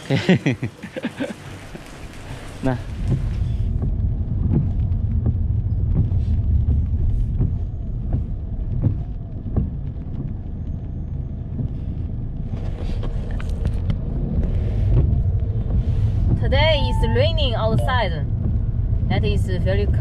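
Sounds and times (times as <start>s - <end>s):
car cabin road rumble: 0.0s - 20.0s
raindrops ticking on windscreen: 0.0s - 20.0s.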